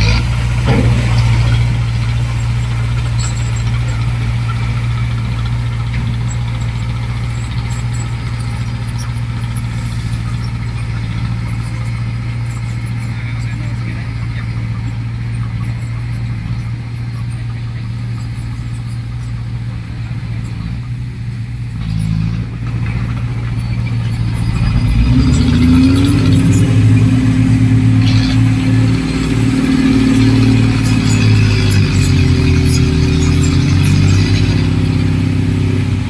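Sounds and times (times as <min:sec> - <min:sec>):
heavy diesel engine revving: 0:00.0 - 0:36.0.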